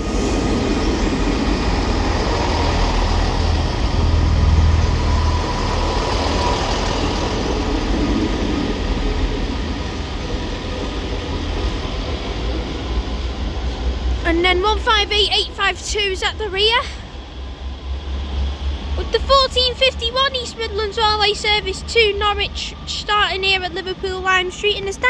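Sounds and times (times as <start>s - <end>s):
train diesel engines rumbling: 0.0s - 25.0s.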